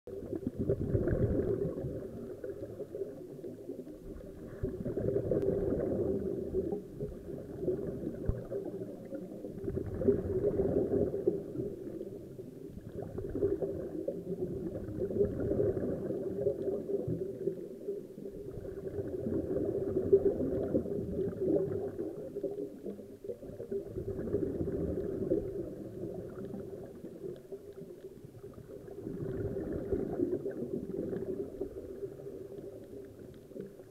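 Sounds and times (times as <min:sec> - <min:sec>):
air bubbling underwater: 0:00.1 - 0:03.3, 0:04.1 - 0:12.1, 0:12.8 - 0:17.6, 0:18.4 - 0:22.3, 0:23.4 - 0:27.2, 0:28.4 - 0:32.8.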